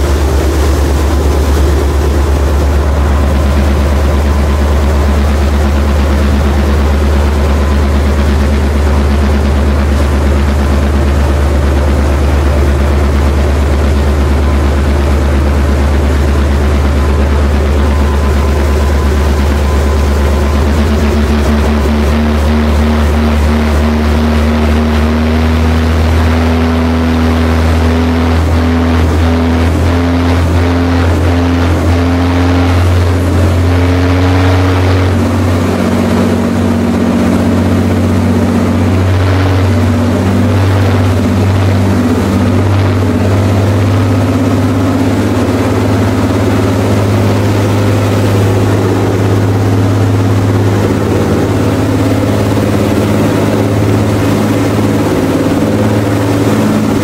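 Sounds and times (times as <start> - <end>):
deep diesel exhaust drone: 0.0 - 57.0
rushing water of wake: 0.0 - 57.0.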